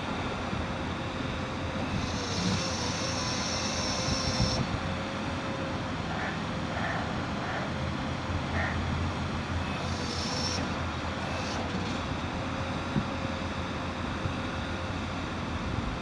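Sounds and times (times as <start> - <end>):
faint steady whine: 0.0 - 16.0
generator humming: 0.0 - 16.0.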